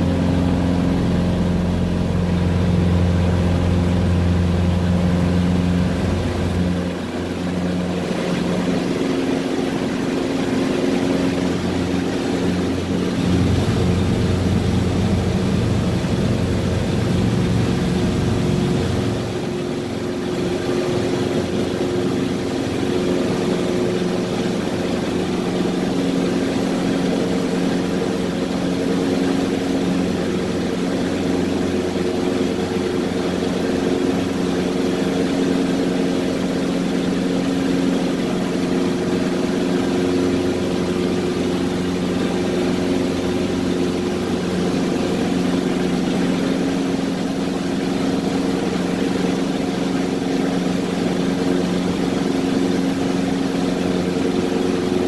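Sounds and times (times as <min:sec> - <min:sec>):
small plane engine droning: 0:00.0 - 0:55.0.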